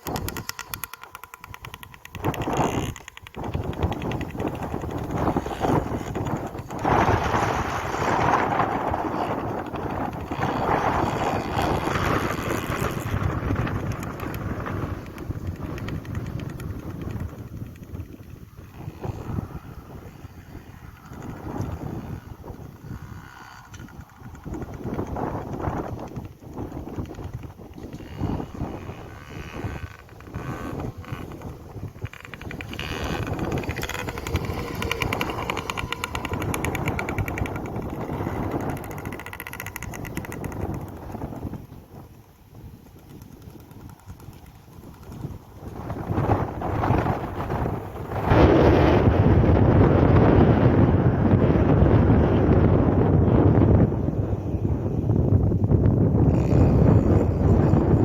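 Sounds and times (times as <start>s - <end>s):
dirt bike engine running: 0.0s - 58.0s
exhaust popping: 0.0s - 58.0s
wind on microphone: 0.0s - 58.0s.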